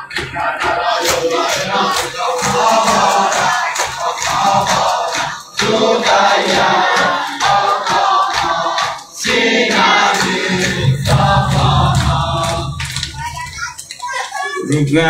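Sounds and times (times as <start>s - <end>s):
group chanting in unison: 0.0s - 13.7s
rhythmic chest-beating: 0.0s - 14.6s.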